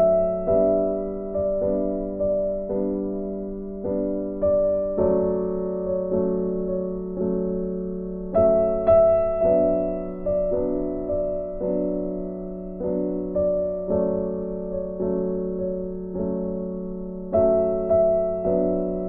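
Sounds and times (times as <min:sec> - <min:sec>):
slow gentle piano: 0:00.0 - 0:19.0.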